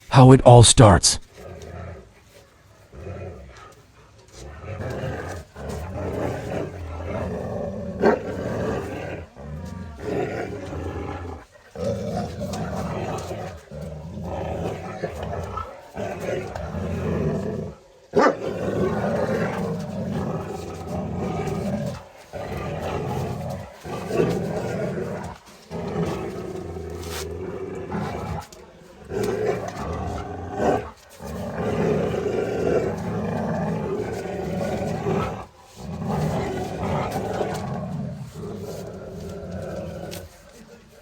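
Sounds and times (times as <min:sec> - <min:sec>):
dog growling: 0:04.4 - 0:40.6.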